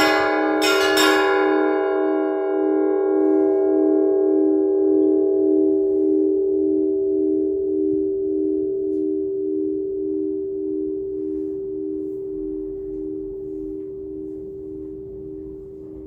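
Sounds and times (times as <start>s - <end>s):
church bell hum: 0.0s - 16.0s.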